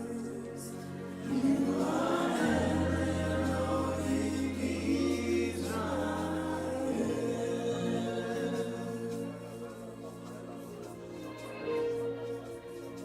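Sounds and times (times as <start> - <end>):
voices singing together: 0.0 - 13.0.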